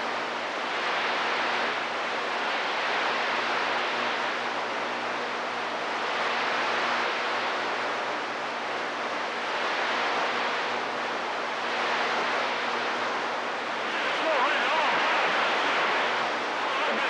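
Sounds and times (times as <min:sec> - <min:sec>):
faint hum: 0:00.0 - 0:17.0
radio static hiss: 0:00.0 - 0:17.0.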